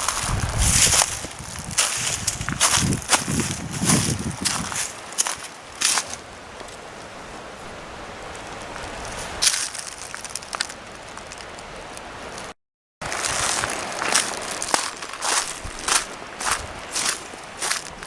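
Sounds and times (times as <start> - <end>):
footsteps on gravel: 0.0 - 6.9, 8.8 - 11.4, 13.0 - 18.0.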